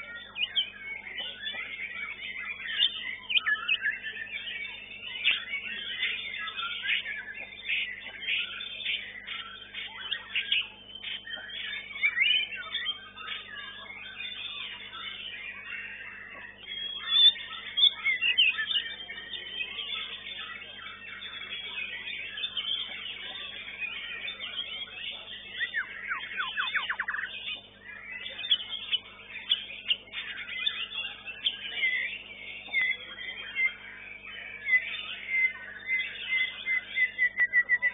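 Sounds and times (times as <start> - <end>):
songbird singing chirps and whistles: 0.0 - 37.9.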